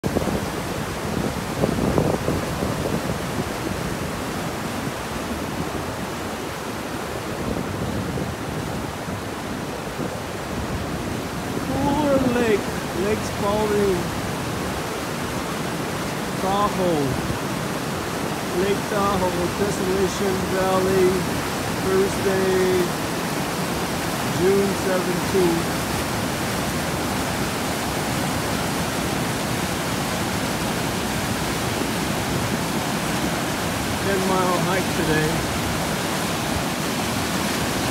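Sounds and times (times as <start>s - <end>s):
river rushing over rocks: 0.0s - 37.9s.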